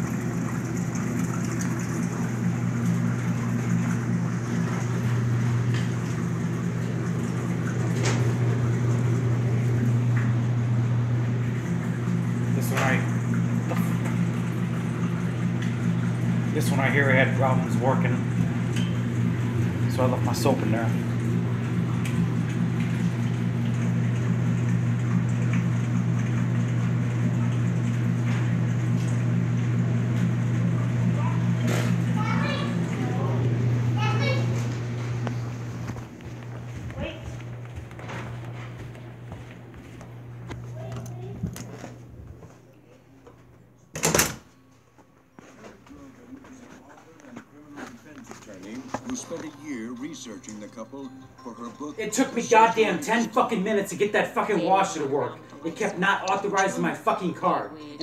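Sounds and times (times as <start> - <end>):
laundry machine humming: 0.0 - 58.0.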